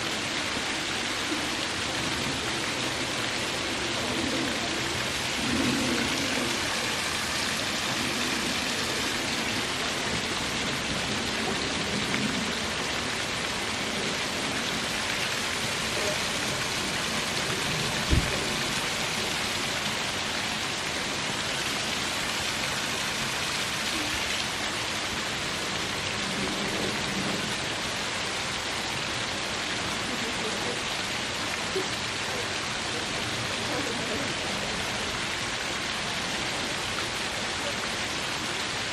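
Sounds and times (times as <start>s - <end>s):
small waterfall splashing over rocks: 0.0s - 38.9s.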